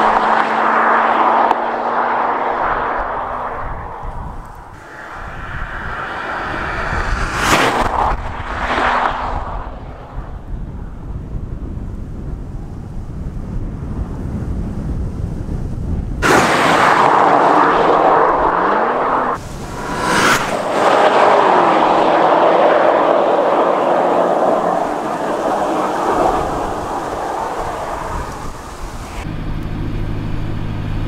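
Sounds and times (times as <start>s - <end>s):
car engine accelerating hard: 0.0s - 10.2s, 16.2s - 31.0s
low rumble: 3.0s - 12.6s, 15.7s - 31.0s.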